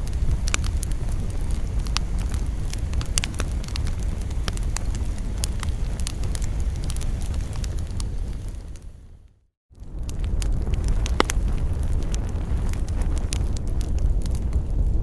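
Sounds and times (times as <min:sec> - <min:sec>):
burning wood crackling and popping: 0:00.0 - 0:15.0
low fire rumble: 0:00.0 - 0:15.0.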